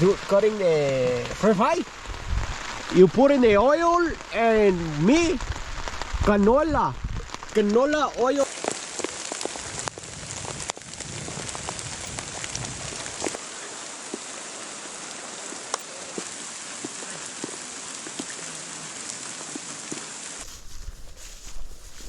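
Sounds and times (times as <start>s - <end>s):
raindrop ticks: 0.0s - 14.4s, 15.0s - 18.4s
steady rain falling: 0.0s - 22.0s.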